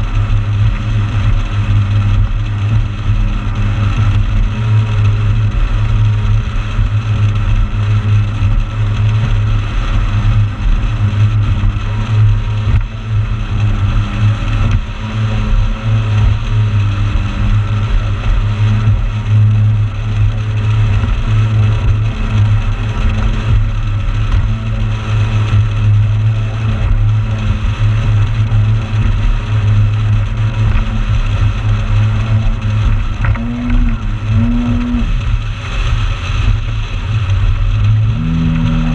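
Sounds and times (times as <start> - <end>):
motorboat engine drone: 0.0 - 38.9
rushing water hiss: 0.0 - 38.9.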